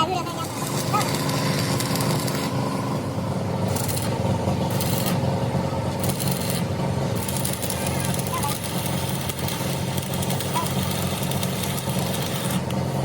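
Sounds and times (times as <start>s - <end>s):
motor running with fast pulse: 0.0s - 13.0s.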